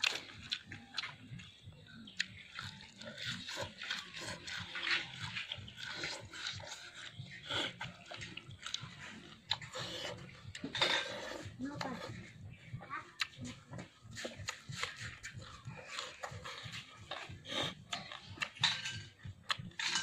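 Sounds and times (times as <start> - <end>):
wet chewing and slurping: 0.0 - 20.0.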